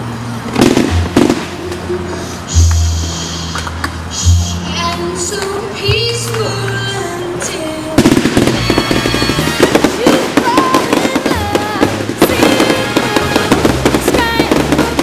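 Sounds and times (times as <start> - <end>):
fireworks bursting and crackling: 0.4 - 4.2, 6.2 - 15.0
loud music: 0.6 - 7.2, 8.0 - 15.0.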